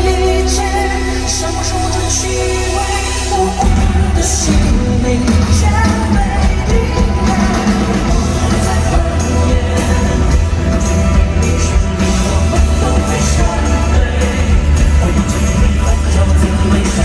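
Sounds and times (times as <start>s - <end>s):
live band with heavy beat: 0.0s - 17.0s
person singing: 0.0s - 17.0s.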